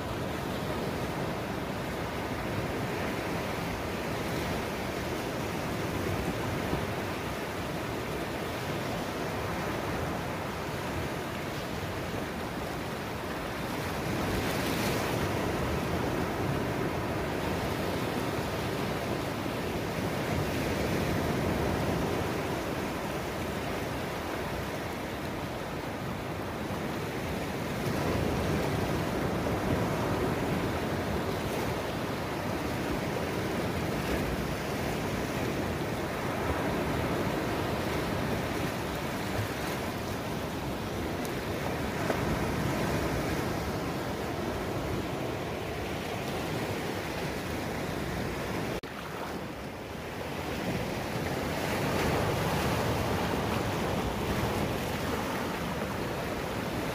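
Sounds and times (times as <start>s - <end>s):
waves washing up beach: 0.0s - 56.9s
waves breaking over rocks: 2.0s - 56.9s.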